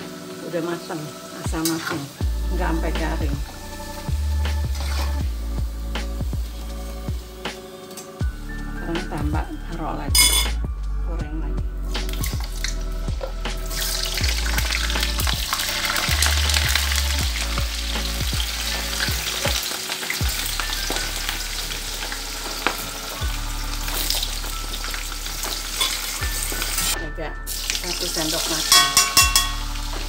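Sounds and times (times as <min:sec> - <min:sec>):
potato slices sizzling in oil: 0:00.0 - 0:09.3, 0:11.8 - 0:30.0.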